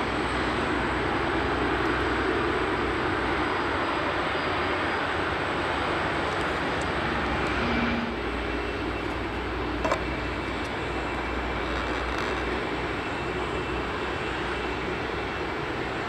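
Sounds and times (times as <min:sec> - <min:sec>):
jet engine noise: 0:00.0 - 0:16.0.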